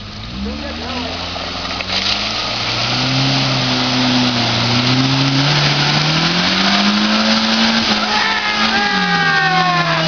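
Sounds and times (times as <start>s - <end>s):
off-road vehicle engine revving: 0.0s - 10.0s
tyres churning through mud: 0.0s - 10.0s.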